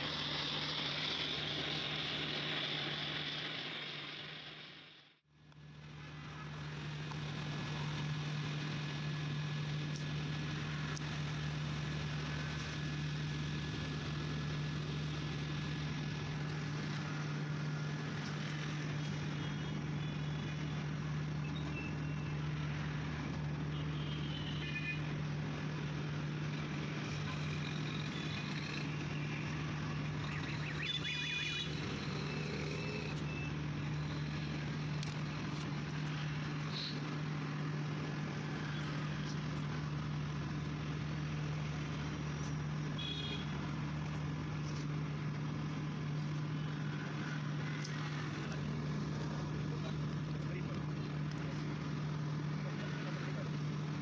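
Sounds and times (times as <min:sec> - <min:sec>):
faint street background noise: 0:00.0 - 0:54.0.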